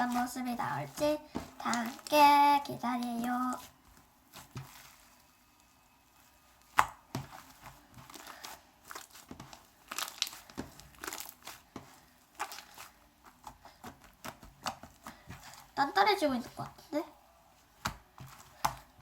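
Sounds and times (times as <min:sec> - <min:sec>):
foamy slime crackling and popping: 0:00.0 - 0:19.0.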